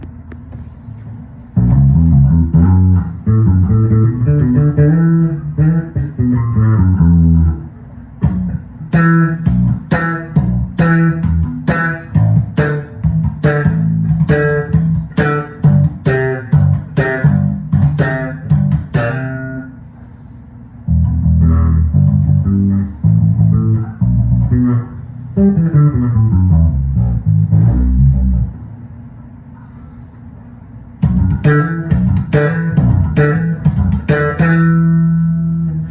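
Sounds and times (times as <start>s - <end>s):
electric bass guitar: 1.4s - 28.9s, 30.9s - 35.9s.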